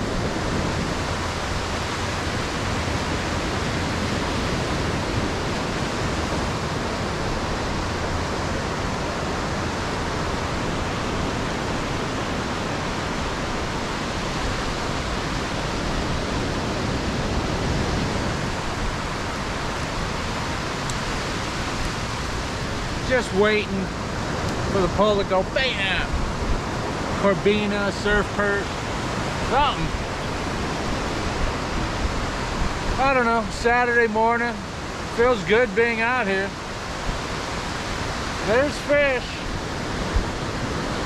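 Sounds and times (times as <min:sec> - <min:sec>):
ocean surf breaking: 0:00.0 - 0:41.0.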